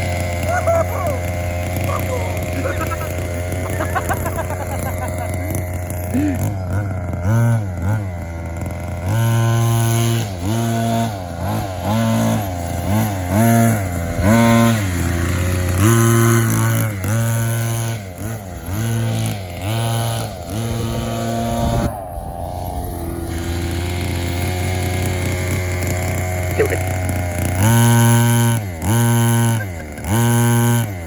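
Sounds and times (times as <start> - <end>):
small two-stroke engine revving: 0.0 - 31.0.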